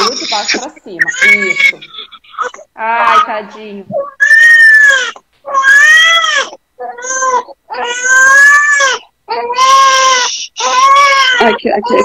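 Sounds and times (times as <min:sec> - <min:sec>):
newborn baby crying: 0:00.0 - 0:12.0.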